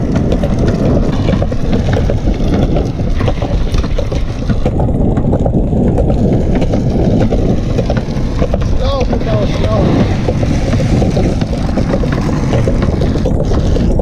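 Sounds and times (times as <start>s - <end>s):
hard wheels rolling on concrete: 0.0s - 14.0s
wind buffeting microphone: 0.0s - 14.0s.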